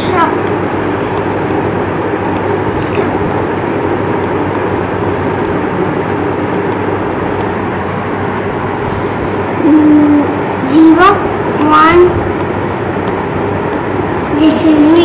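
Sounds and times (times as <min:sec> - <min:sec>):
rumbling background noise: 0:00.0 - 0:15.0.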